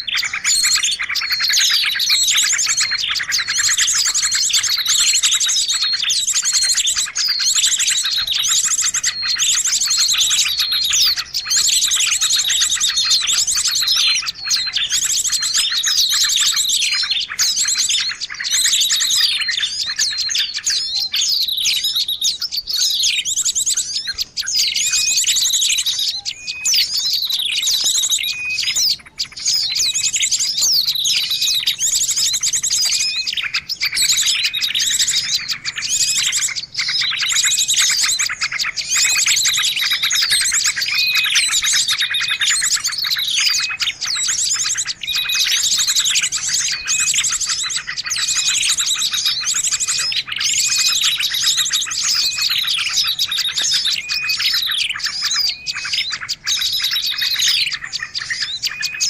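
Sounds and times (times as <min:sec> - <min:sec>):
small birds chirping chorus: 0:00.0 - 0:59.0.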